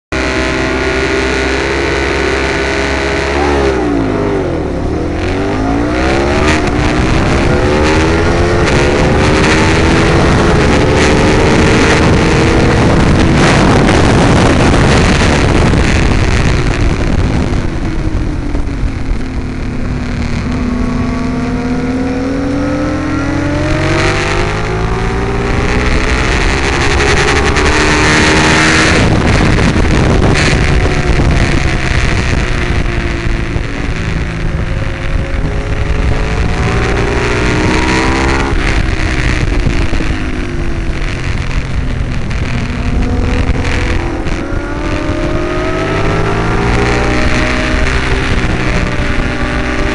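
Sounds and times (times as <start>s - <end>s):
motorcycle engine accelerating: 0.0s - 49.9s
wind rush: 0.1s - 49.9s.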